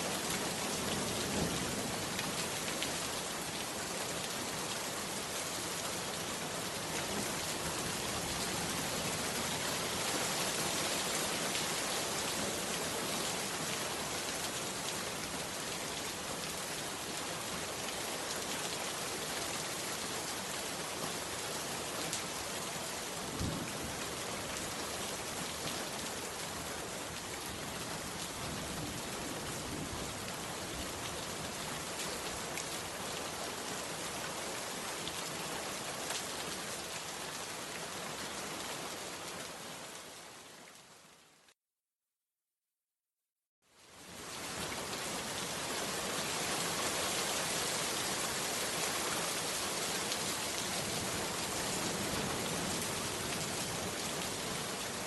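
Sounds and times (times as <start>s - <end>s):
heavy rain pouring: 0.0s - 40.4s, 44.0s - 55.0s.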